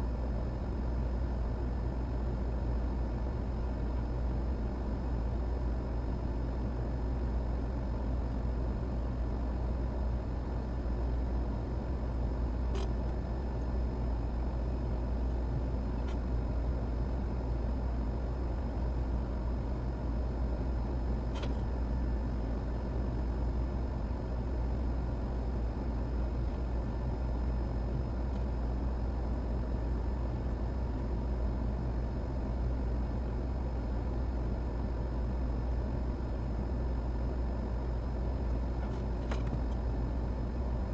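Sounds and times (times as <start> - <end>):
equipment hum and hiss: 0.0 - 40.9.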